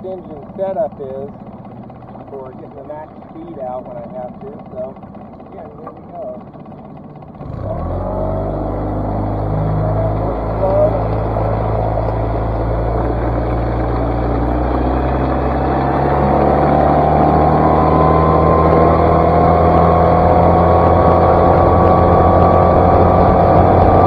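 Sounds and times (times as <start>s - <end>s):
outboard motor running hard: 0.0s - 24.0s
water rushing along hull: 0.0s - 24.0s.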